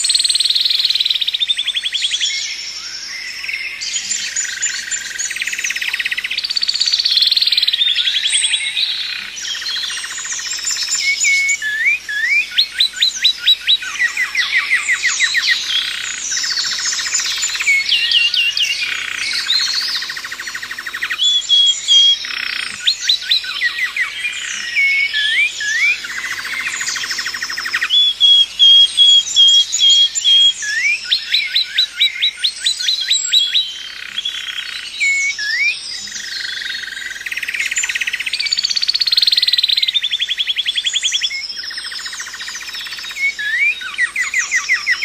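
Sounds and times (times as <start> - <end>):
birds singing in chorus: 0.0 - 45.0.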